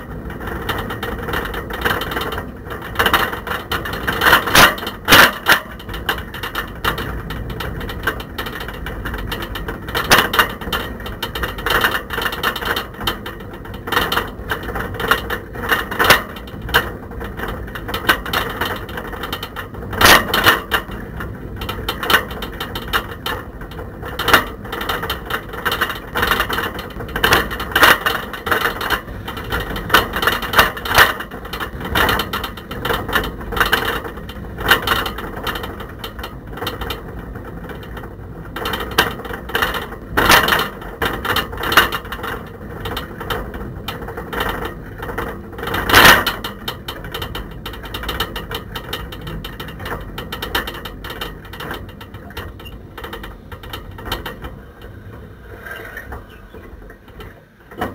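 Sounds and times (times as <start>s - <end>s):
camera rattling in bike basket: 0.0s - 57.9s
road noise: 0.0s - 57.9s.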